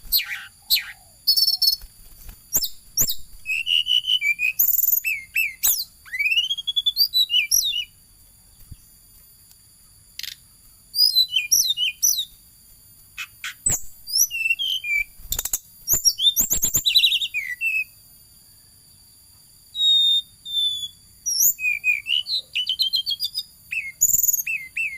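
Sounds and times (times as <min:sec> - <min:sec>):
bird singing chirps and whistles: 0:00.0 - 0:08.0, 0:10.2 - 0:12.4, 0:13.2 - 0:18.0, 0:19.7 - 0:24.9.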